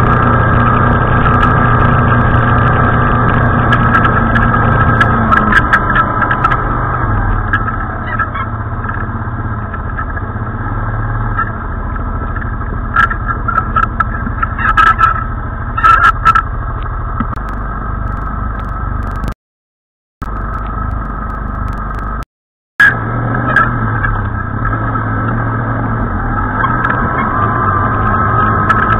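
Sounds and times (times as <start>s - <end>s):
quad engine running: 0.0s - 19.4s, 20.2s - 28.9s.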